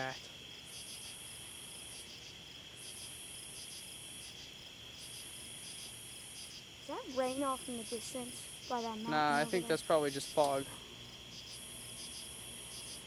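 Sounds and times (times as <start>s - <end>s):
crickets trilling: 0.0s - 13.0s
high insect buzz: 0.0s - 13.0s.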